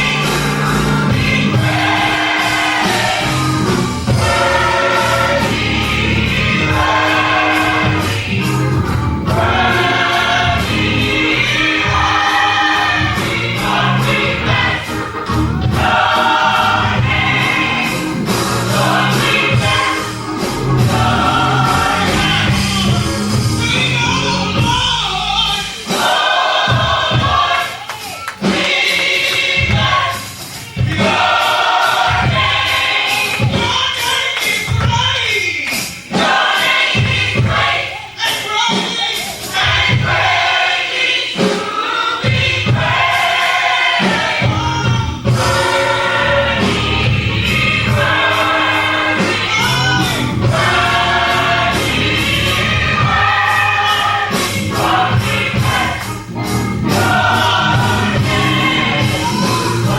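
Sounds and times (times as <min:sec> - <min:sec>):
gospel choir singing in harmony: 0:00.0 - 0:59.9
instrumental backing with steady beat: 0:00.0 - 0:59.9
musical accompaniment: 0:00.0 - 0:59.9.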